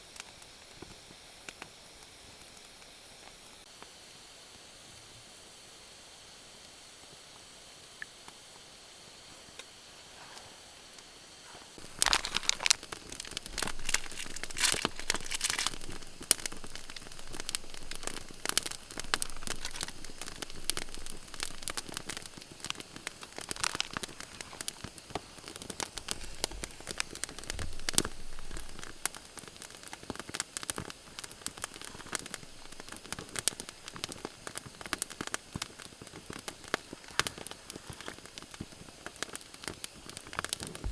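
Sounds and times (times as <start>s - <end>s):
campfire crackling and popping: 0.0s - 3.7s, 11.8s - 40.9s
faint hiss: 0.0s - 40.9s.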